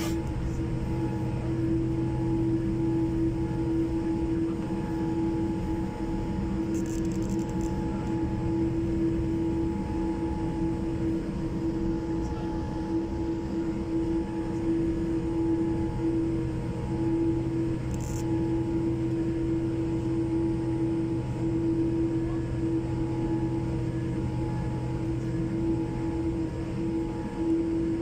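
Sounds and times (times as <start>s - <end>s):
aircraft cabin hum: 0.0s - 28.0s
engines idling low rumble: 0.0s - 28.0s.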